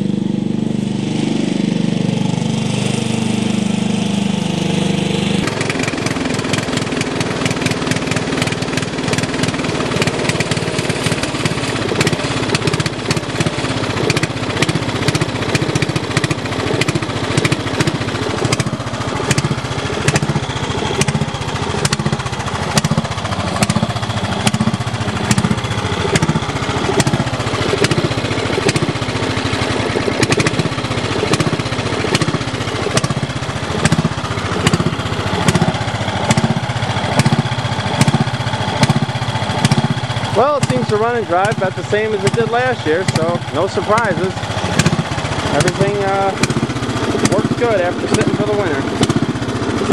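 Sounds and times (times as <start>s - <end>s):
lawn tractor engine running: 0.0s - 49.9s.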